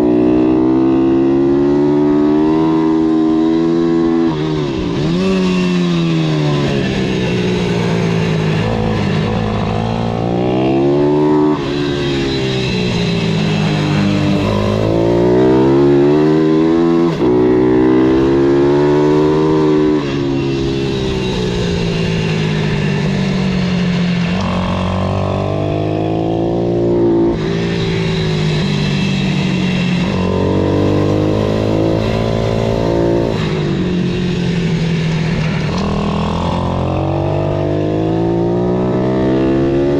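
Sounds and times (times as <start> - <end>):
small motorcycle engine revving: 0.0 - 39.9.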